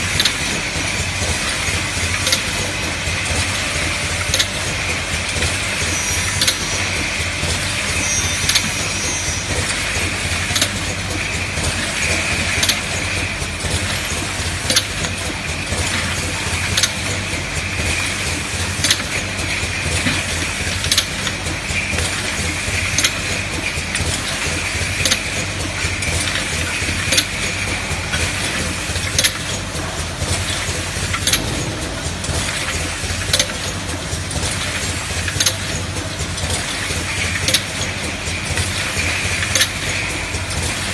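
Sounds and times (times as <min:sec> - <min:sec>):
machine humming and hissing: 0:00.0 - 0:40.9
sharp machine clack: 0:00.0 - 0:40.9.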